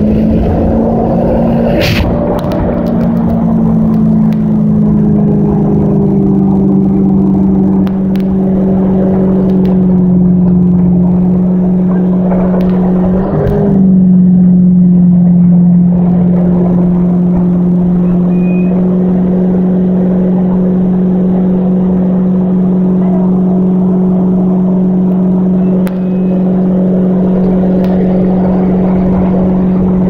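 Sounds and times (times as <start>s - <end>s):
boat engine droning: 0.0s - 30.0s
wind rushing over microphone: 0.0s - 30.0s.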